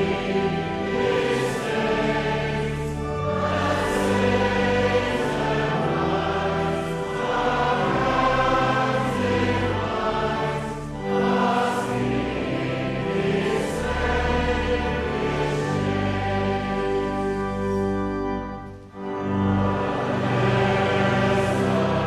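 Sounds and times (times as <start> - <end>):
choir singing a hymn: 0.0 - 22.0.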